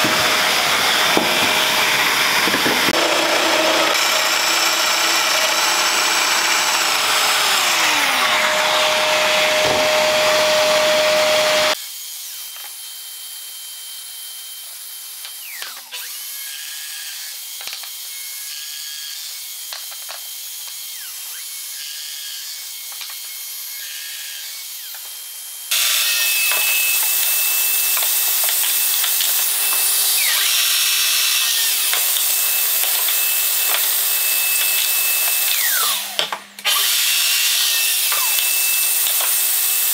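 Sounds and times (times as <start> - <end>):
power joiner whining and cutting wood: 0.0 - 39.9.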